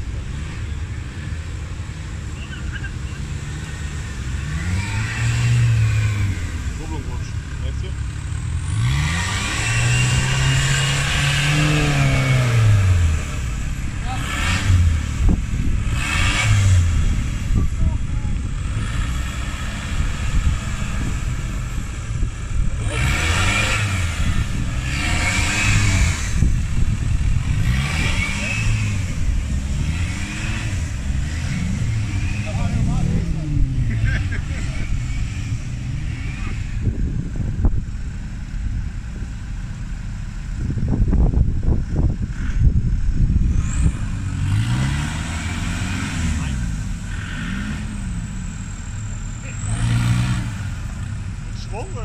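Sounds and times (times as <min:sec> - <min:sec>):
buggy engine revving: 0:00.0 - 0:52.0
vehicle churning through mud and water: 0:00.0 - 0:52.0.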